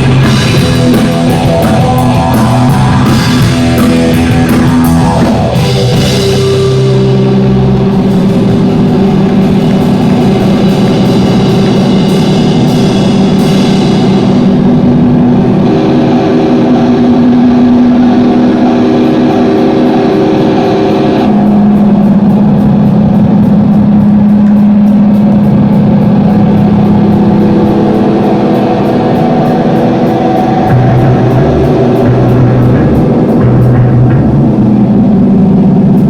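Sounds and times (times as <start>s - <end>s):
live band playing loudly: 0.0s - 36.0s.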